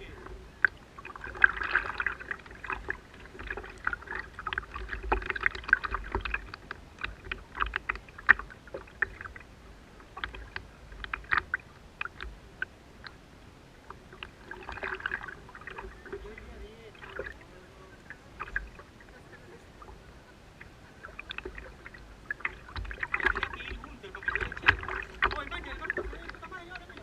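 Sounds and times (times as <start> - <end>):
water sloshing: 0.0 - 27.0.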